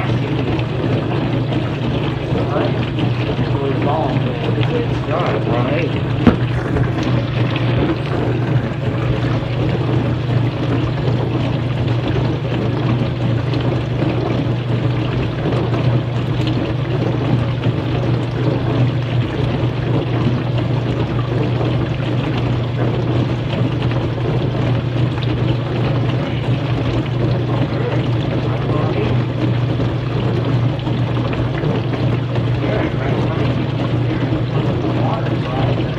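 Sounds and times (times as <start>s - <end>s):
dishwasher motor hum: 0.0s - 35.9s
water spraying inside dishwasher: 0.0s - 35.9s.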